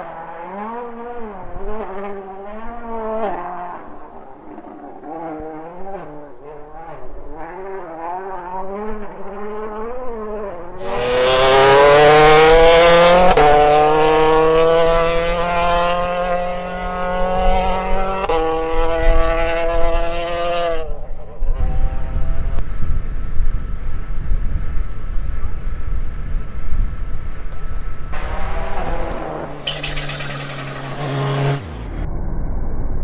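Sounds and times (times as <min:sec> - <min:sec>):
car engine revving: 0:00.0 - 0:23.3, 0:27.0 - 0:32.1
car engine at full throttle: 0:00.0 - 0:33.0.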